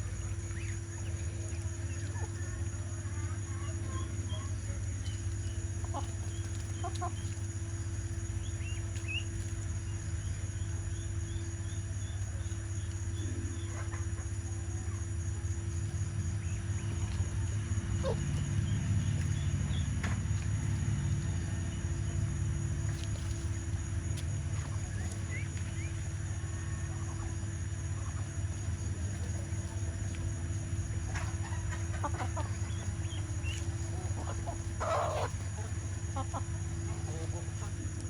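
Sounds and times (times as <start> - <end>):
chickens clucking: 0.0 - 38.0
steady low hum: 0.0 - 38.0.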